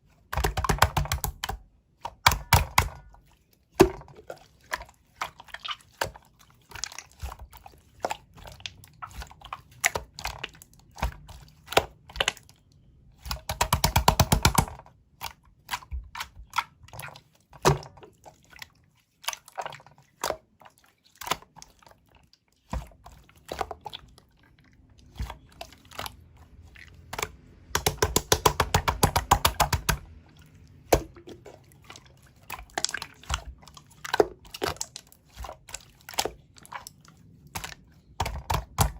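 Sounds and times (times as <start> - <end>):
slime squishing with sticky pops: 0.2 - 38.9.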